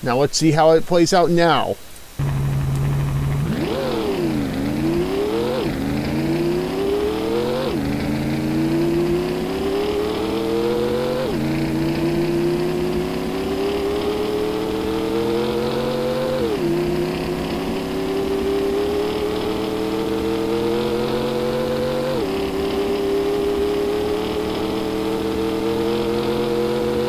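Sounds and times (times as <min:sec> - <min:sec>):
synthetic car engine accelerating: 0:02.2 - 0:27.0.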